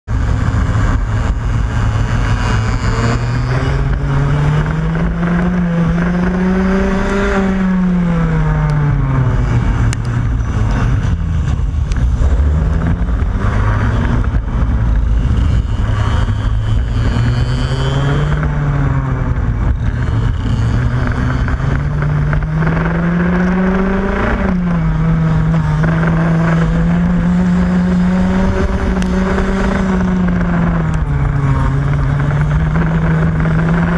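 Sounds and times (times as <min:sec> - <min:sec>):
kart engine revving: 0:00.1 - 0:33.9
wind noise: 0:00.1 - 0:33.9.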